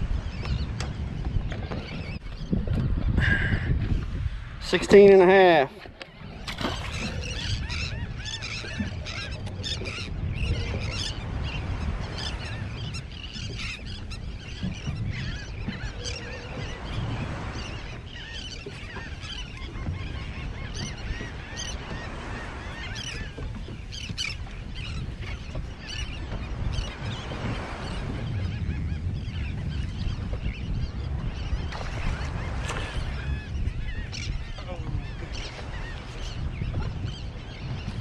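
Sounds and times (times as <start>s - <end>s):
birds calling: 4.5s - 38.0s.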